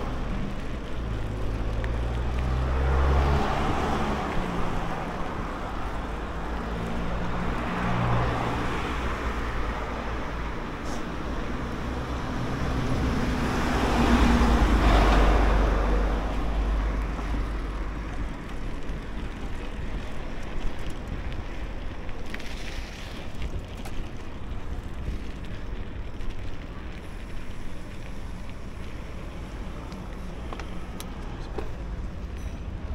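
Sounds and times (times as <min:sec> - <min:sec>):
low road rumble: 0:00.0 - 0:32.9.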